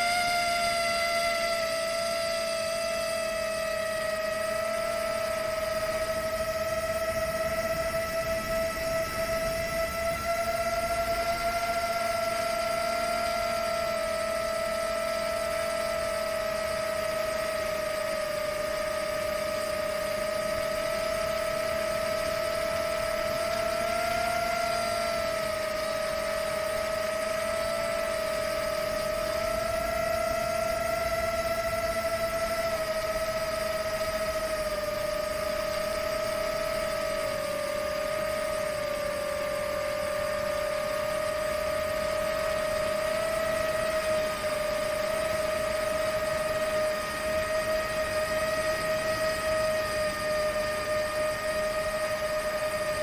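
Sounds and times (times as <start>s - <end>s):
drone motors and propellers whining: 0.0s - 53.0s.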